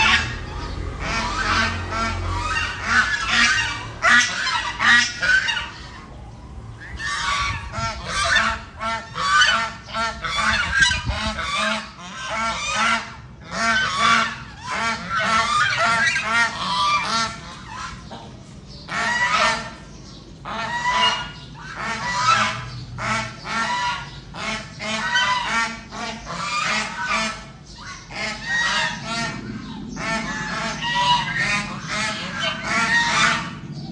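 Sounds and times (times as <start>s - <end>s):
geese honking: 0.0s - 33.9s.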